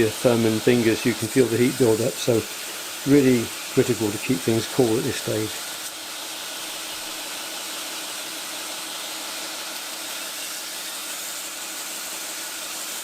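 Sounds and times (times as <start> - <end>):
grinder grinding steel: 0.0 - 13.0.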